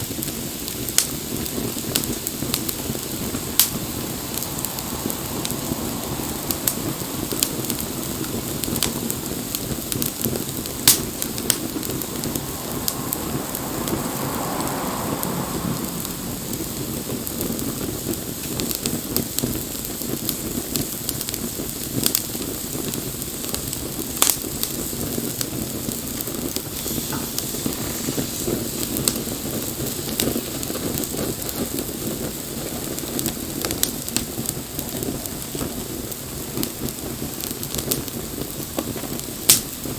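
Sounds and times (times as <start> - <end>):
bonfire hissing and crackling: 0.0 - 39.9
fire pops: 0.0 - 39.9.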